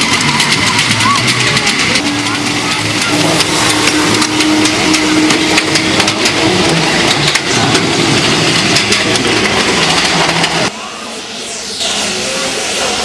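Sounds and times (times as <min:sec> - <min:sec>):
miniature locomotive engine running: 0:00.0 - 0:11.2
wheels clicking on track: 0:00.0 - 0:13.0.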